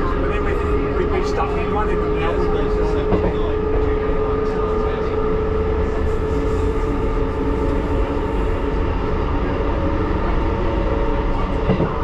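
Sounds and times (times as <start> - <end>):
train wheels rumbling: 0.0 - 12.0
train whine: 0.0 - 12.0.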